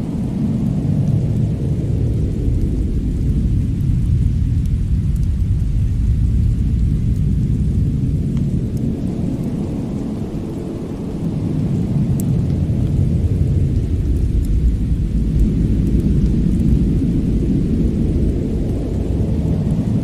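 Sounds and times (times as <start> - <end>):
deep steady rumble: 0.0 - 20.0
faint fire crackles: 0.0 - 20.0.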